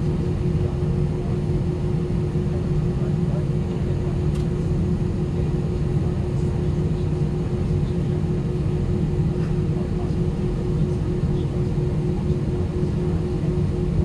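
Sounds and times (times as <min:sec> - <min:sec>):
constant hum: 0:00.0 - 0:14.0
jet engine cabin drone: 0:00.0 - 0:14.0.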